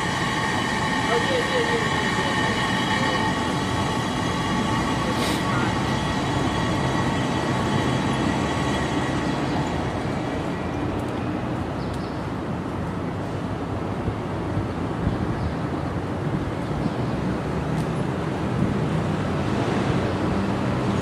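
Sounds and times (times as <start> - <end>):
wheels rumbling on rail: 0.0 - 21.0.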